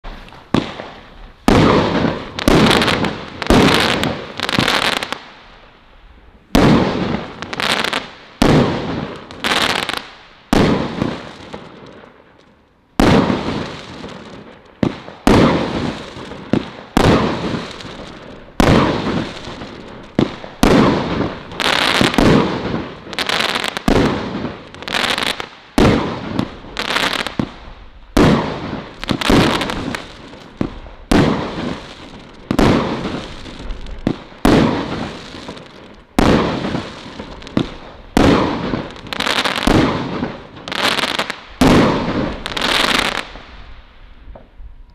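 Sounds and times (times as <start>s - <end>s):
firework bangs: 0.0s - 5.6s, 6.4s - 12.1s, 13.0s - 44.6s.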